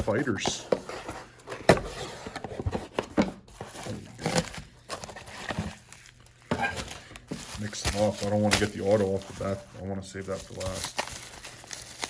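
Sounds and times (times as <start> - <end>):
cards and foil packs handled: 0.0 - 12.0.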